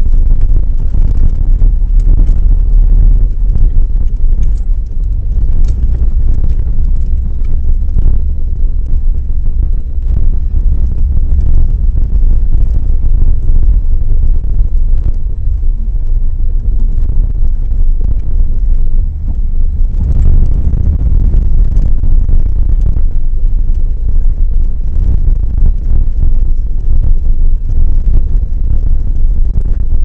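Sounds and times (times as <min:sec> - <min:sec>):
hitch clicks and rattles: 0:00.0 - 0:30.0
trailer rumbling over gravel: 0:00.0 - 0:30.0.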